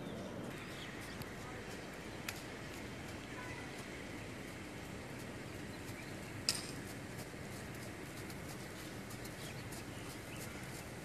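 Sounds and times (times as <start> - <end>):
outdoor background noise: 0.0 - 11.0
soft hoofbeats on sand: 0.0 - 11.0.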